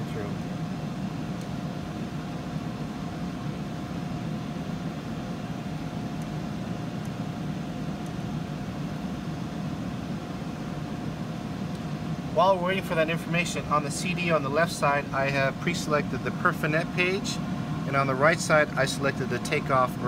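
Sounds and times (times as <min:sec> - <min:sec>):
equipment and ventilation hum: 0:00.0 - 0:20.0
faint constant whine: 0:00.0 - 0:20.0.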